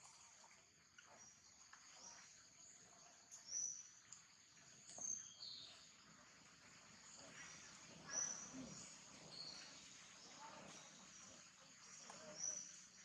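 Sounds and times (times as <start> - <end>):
insect hum: 0.0 - 13.0.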